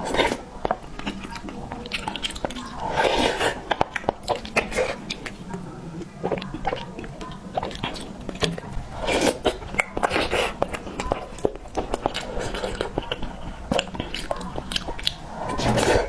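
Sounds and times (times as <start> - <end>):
chewing and lip smacks: 0.0 - 16.0.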